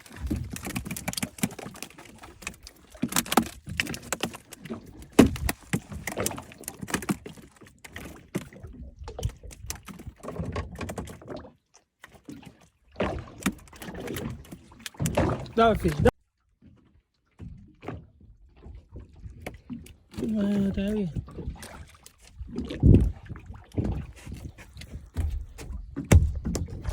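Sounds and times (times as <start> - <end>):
knocks and clatter on boat: 0.0 - 26.9
water noise: 0.0 - 26.9.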